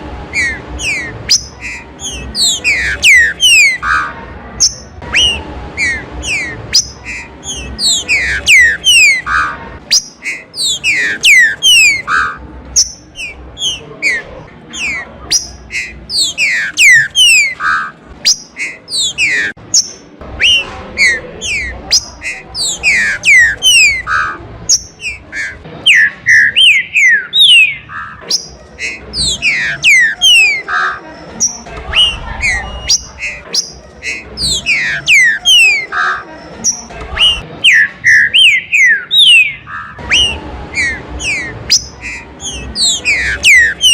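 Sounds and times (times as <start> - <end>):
birds whistling song: 0.3 - 43.9.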